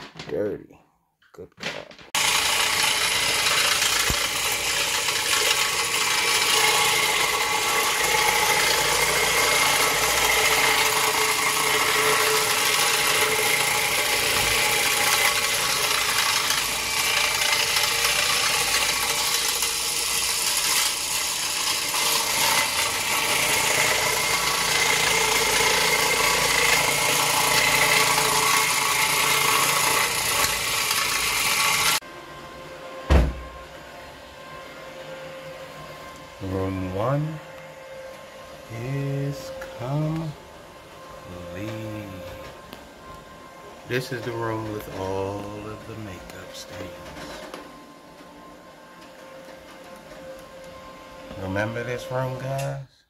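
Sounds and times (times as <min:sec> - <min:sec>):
carpet machine motor hum with rattle: 0:01.9 - 0:52.8.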